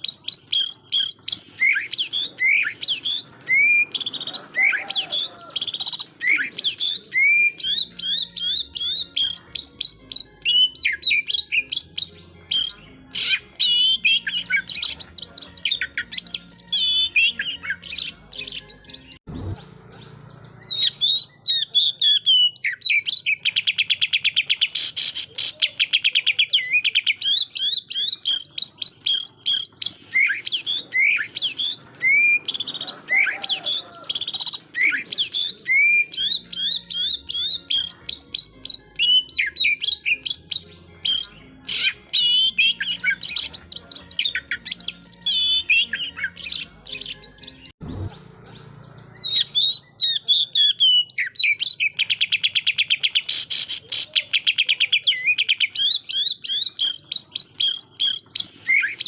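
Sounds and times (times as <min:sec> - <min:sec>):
bird singing whistles and chirps: 0:00.0 - 0:59.0.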